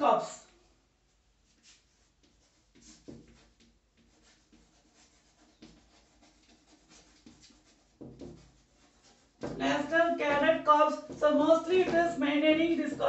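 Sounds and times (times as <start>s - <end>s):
chalk scratching on blackboard: 1.4s - 13.0s.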